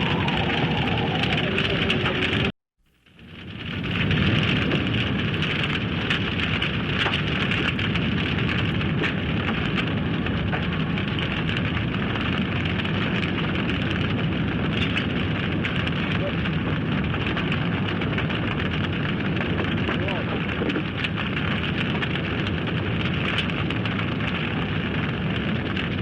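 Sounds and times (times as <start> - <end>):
large fire roaring and crackling: 0.0 - 26.0.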